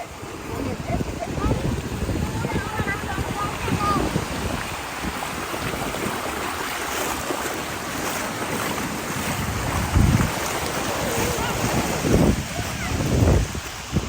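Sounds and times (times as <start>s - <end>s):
surf washing at shoreline: 0.0s - 14.0s
wind buffeting microphone: 0.0s - 14.0s.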